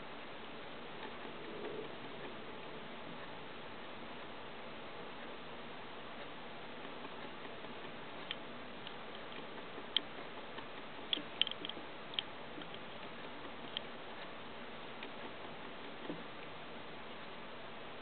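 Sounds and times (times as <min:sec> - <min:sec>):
faint clicks and crackles: 0:00.0 - 0:18.0
steady hiss: 0:00.0 - 0:18.0.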